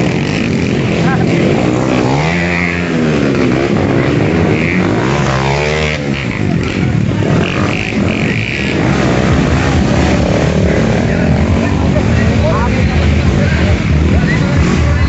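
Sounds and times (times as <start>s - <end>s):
dirt bike engines revving: 0.0s - 15.0s
loud engine drone: 0.0s - 15.0s.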